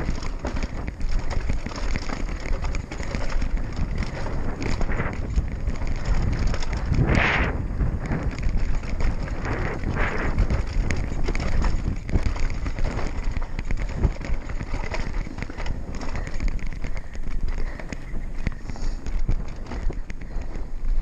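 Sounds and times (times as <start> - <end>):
bike rattling and knocking: 0.0 - 21.0
tyres crunching over dirt and rocks: 0.0 - 21.0
wind rumble on microphone: 0.0 - 21.0.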